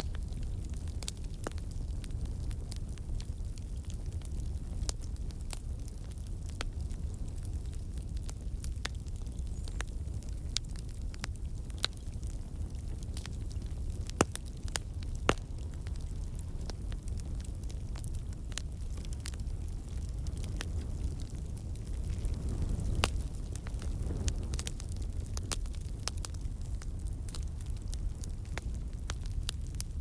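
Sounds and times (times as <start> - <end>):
campfire burning: 0.0 - 30.0
logs crackling and popping: 0.0 - 30.0.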